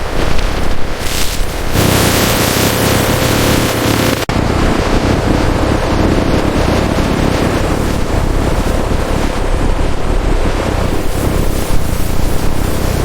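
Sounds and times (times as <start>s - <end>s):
loud rushing wind: 0.0s - 13.0s.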